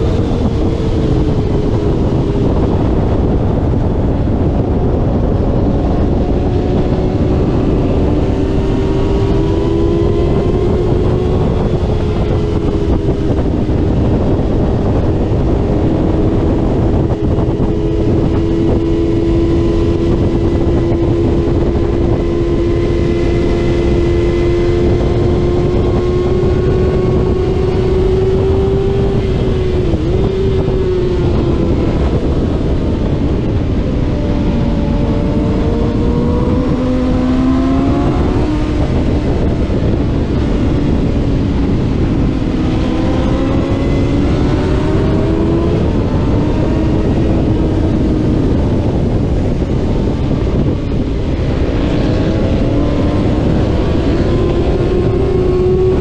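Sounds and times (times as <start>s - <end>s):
motorcycle engine at high revs: 0.0s - 56.0s
wind rush on microphone: 0.0s - 56.0s.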